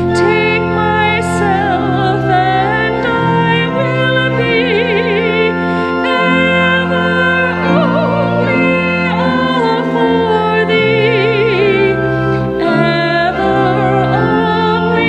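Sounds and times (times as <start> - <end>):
sustained organ chords: 0.0 - 15.0
woman singing a hymn: 0.0 - 15.0.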